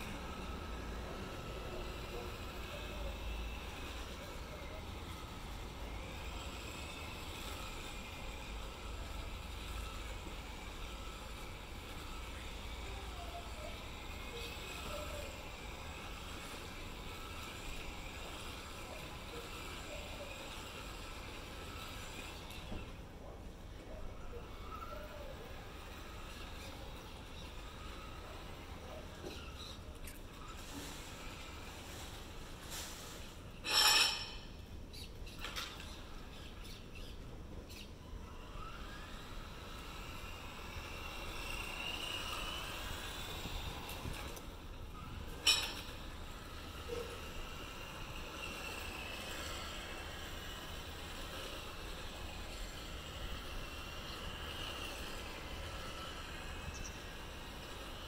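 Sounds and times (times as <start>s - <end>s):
electric motor whine: 0.0s - 33.2s, 37.7s - 58.0s.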